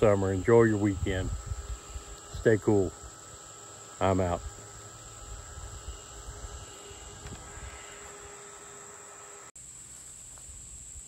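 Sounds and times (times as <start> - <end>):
crickets chirping: 0.0 - 11.0
faint steady hum: 0.0 - 11.0.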